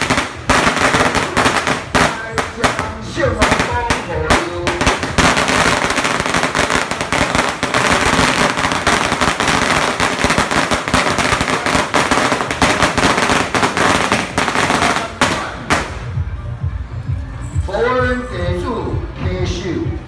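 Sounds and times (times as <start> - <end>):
firecrackers banging rapidly: 0.0 - 16.2.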